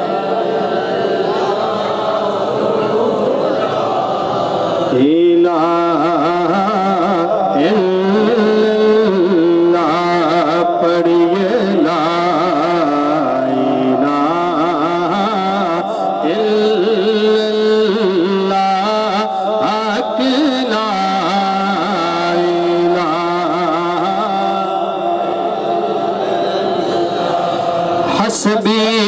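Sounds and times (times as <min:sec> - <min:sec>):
man singing through microphone: 0:00.0 - 0:03.9, 0:04.8 - 0:29.0.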